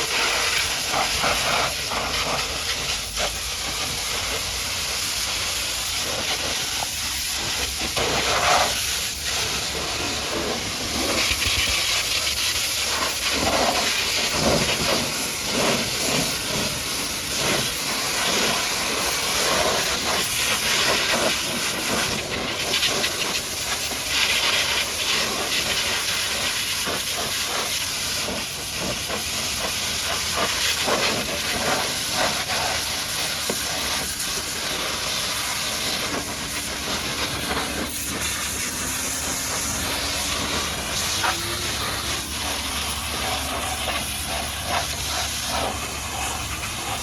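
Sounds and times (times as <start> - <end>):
pressure washer spraying water: 0.0 - 47.0.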